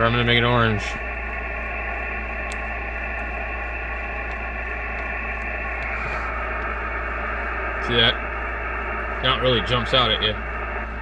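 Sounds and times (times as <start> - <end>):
radio static hiss: 0.0 - 11.0
steady low hum: 0.0 - 11.0.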